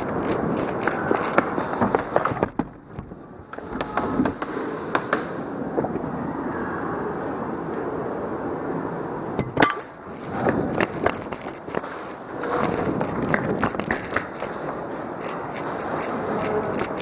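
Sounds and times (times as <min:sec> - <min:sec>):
steady background rush: 0:00.0 - 0:17.0.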